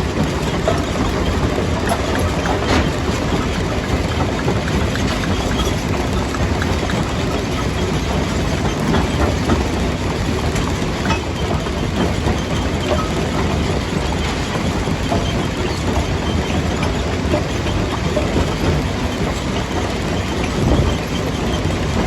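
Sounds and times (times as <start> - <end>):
jaw crusher rumbling: 0.1 - 22.0.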